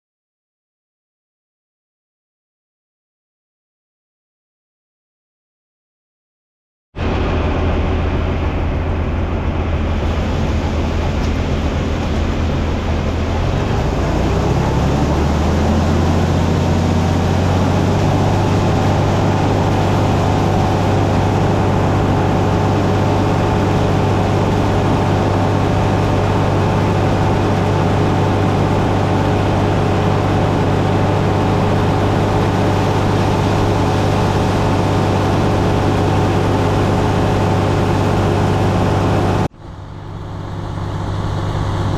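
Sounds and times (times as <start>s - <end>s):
large engine running: 7.0s - 41.9s.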